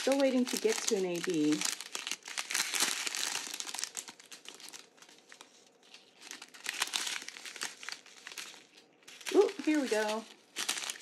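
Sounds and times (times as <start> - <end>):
plastic zip bags crinkling: 0.0 - 11.0.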